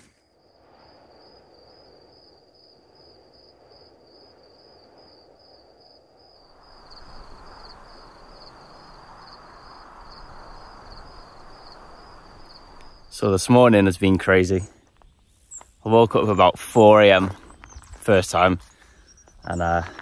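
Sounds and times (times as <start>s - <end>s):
crickets chirping: 0.0s - 20.0s
faint outdoor hiss: 0.0s - 20.0s.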